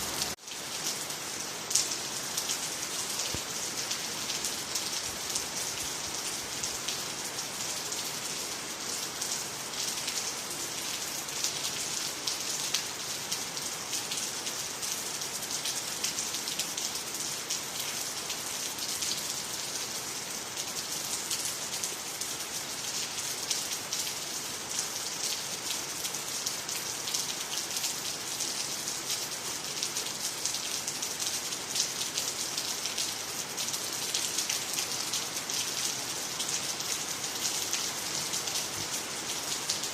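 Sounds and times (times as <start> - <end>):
rain falling on water and trees: 0.0 - 39.9.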